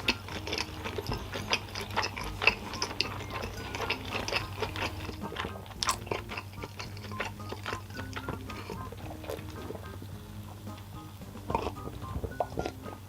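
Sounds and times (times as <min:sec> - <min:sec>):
mouth clicks and smacks: 0:00.0 - 0:13.0
person chewing food: 0:00.0 - 0:13.0.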